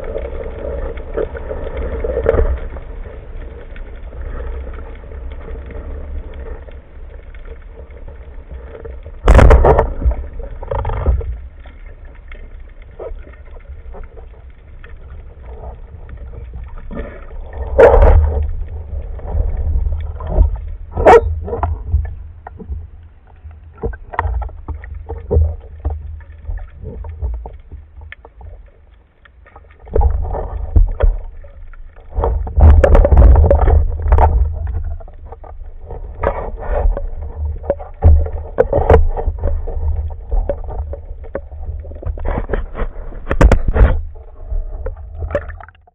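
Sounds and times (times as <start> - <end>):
underwater knocks and scrapes: 0.0 - 45.9
underwater water rumble: 0.0 - 45.9.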